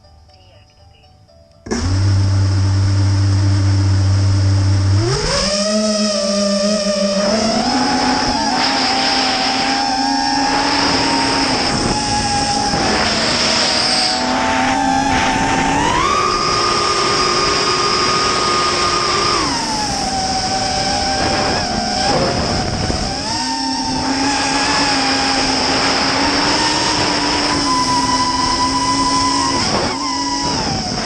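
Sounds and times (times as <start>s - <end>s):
drone propellers whining: 1.6s - 31.0s.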